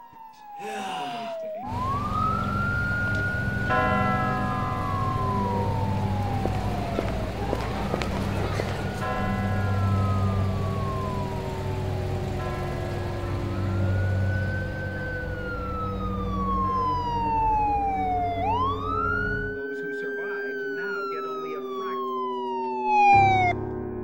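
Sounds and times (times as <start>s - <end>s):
siren wailing: 0.0s - 23.7s.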